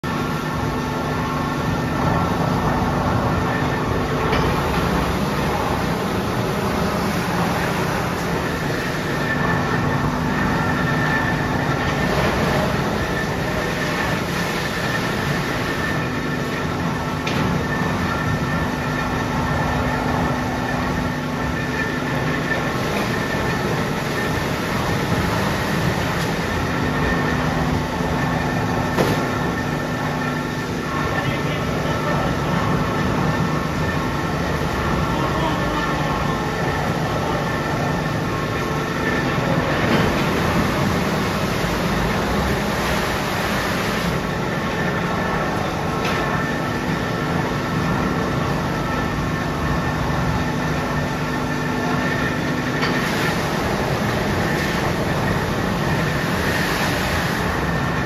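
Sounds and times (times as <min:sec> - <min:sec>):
low mechanical hum: 0:00.0 - 0:58.0
machinery running steadily: 0:00.0 - 0:58.0.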